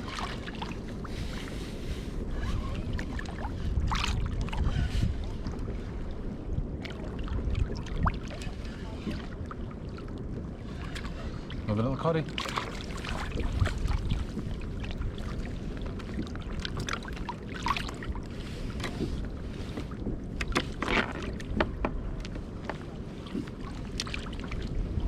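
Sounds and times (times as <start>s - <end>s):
water sloshing against kayak: 0.0s - 25.0s
wind buffeting microphone: 0.0s - 25.0s.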